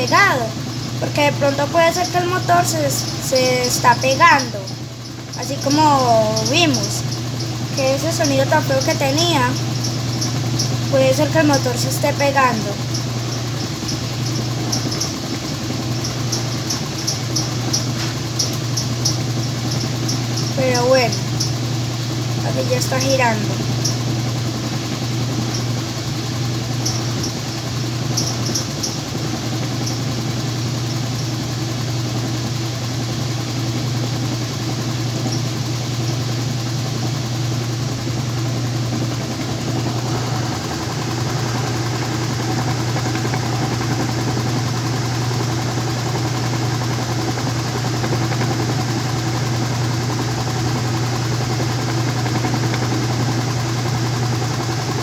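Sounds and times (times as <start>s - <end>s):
low motor hum: 0.0s - 55.0s
washing machine drum spinning: 0.0s - 55.0s.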